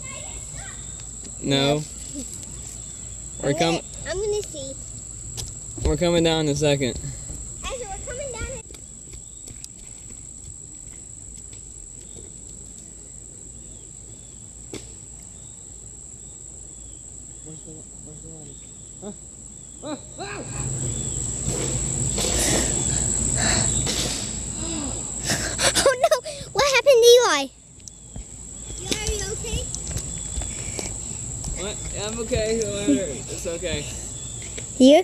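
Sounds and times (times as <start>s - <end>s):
insect chorus droning: 0.0s - 35.0s.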